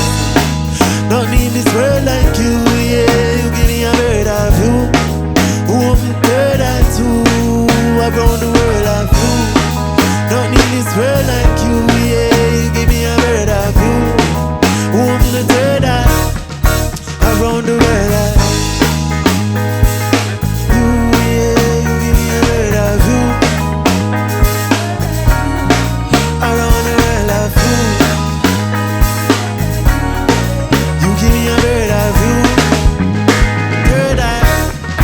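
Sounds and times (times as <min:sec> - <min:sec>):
reggae band playing: 0:00.0 - 0:35.0.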